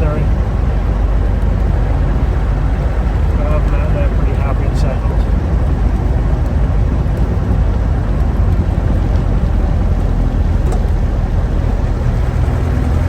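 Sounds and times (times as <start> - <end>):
diesel engine rumble in cabin: 0.0 - 13.0.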